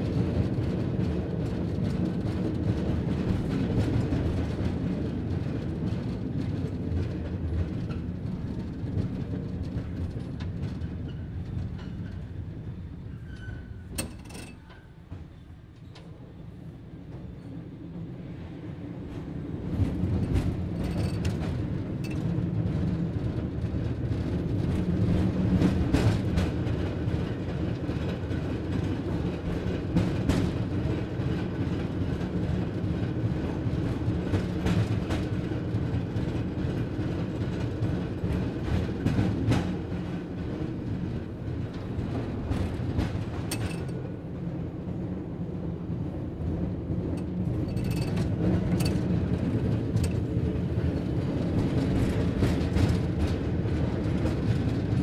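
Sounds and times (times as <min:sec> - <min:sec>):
streetcar rumble on rails: 0:00.0 - 0:55.0.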